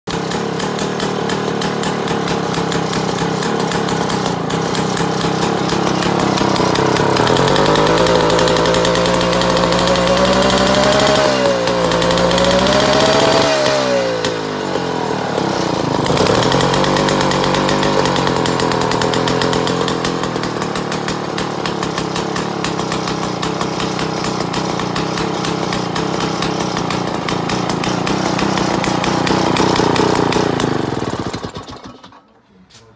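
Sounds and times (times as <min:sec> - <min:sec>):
chainsaw engine running: 0:00.1 - 0:32.2.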